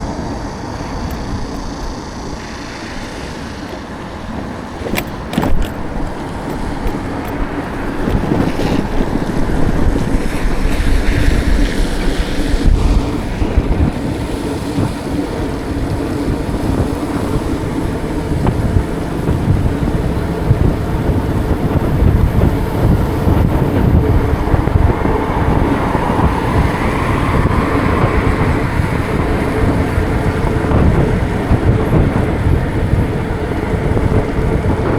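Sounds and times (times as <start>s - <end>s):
street traffic noise: 0.0s - 34.9s
wind buffeting microphone: 0.0s - 34.9s.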